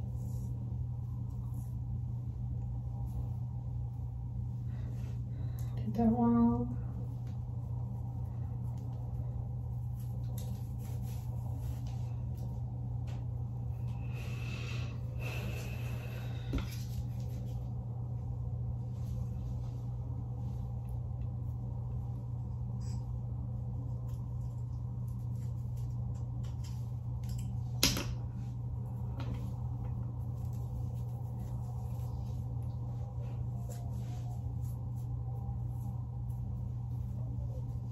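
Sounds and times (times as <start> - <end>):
faint rustling of hair: 0.0 - 37.9
steady low hum: 0.0 - 37.9.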